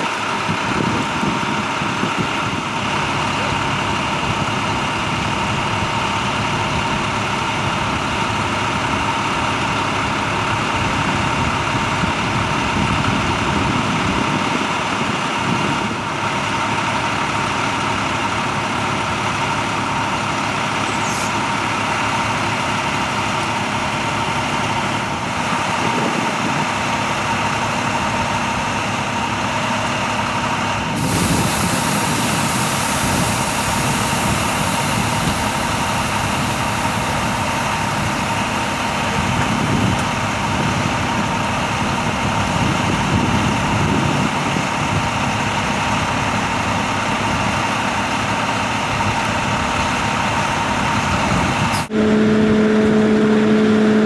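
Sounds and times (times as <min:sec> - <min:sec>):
heavy truck engines idling: 0:00.0 - 0:54.0.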